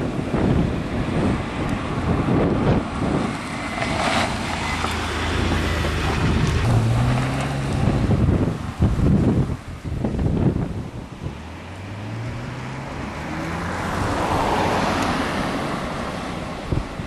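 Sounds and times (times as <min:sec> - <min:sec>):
car engine drone: 0:00.0 - 0:17.0
road and wind noise: 0:00.0 - 0:17.0.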